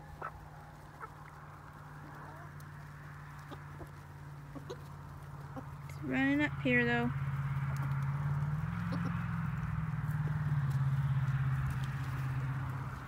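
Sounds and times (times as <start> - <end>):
chickens clucking: 0.0 - 6.4, 7.5 - 13.0.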